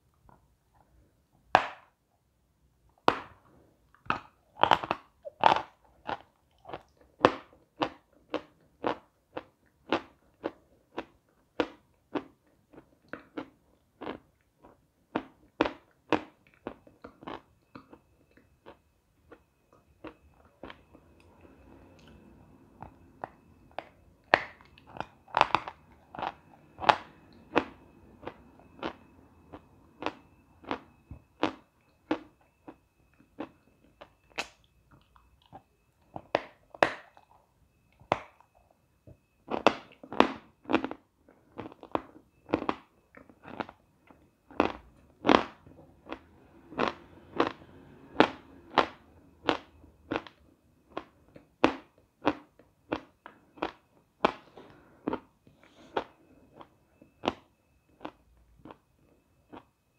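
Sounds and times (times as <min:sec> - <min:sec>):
faint steady high tone: 0:00.0 - 0:59.9
chalk crunching while chewed: 0:03.1 - 0:21.0, 0:22.8 - 0:32.8, 0:33.4 - 0:38.5, 0:39.5 - 0:58.8, 0:59.5 - 0:59.7.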